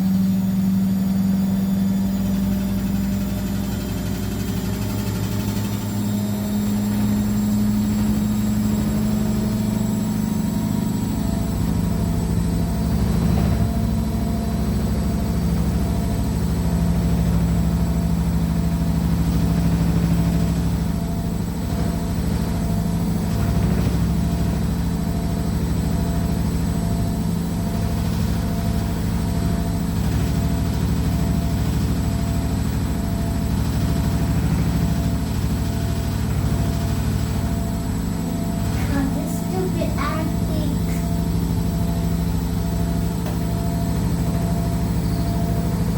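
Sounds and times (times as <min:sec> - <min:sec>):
washing machine spinning and rattling: 0:00.0 - 0:45.9.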